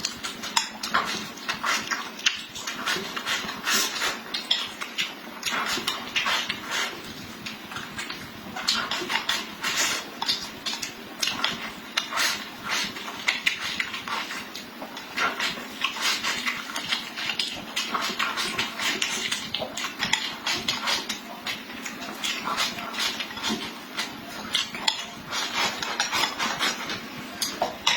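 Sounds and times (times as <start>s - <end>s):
wet chewing and lip-smacking: 0.0s - 27.9s.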